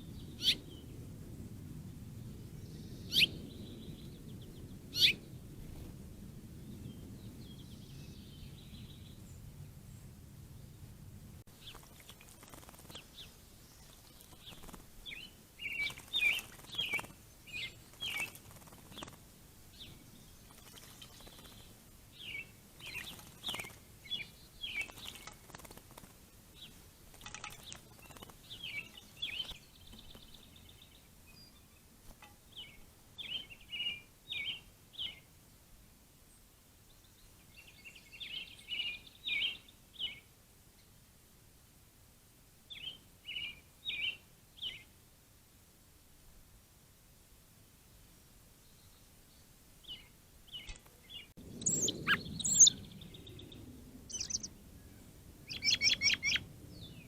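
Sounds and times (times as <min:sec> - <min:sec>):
songbird chirping: 0:00.0 - 0:10.8, 0:11.4 - 0:35.6, 0:36.3 - 0:41.0, 0:42.7 - 0:44.9, 0:48.6 - 0:57.0.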